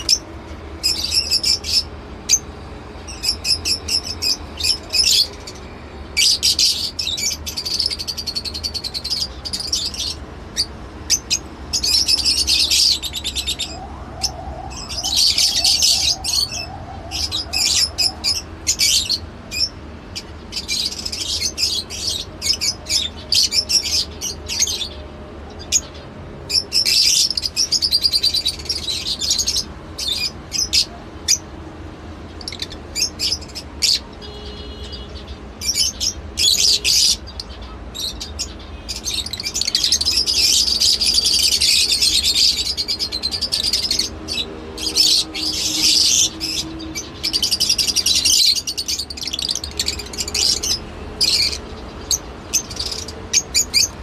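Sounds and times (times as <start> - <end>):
lovebirds chirping: 0.0 - 31.5, 32.3 - 54.0.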